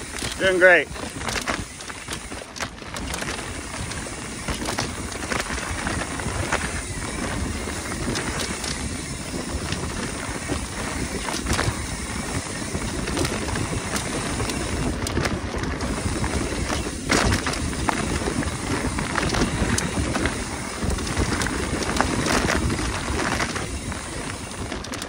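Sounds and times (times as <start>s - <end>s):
bike rattling and knocking: 0.0s - 25.0s
tyre and wind noise: 0.0s - 25.0s.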